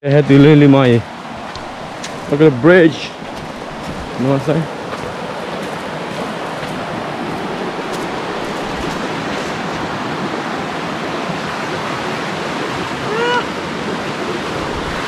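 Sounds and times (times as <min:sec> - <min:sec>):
stream rushing: 0:00.1 - 0:15.0.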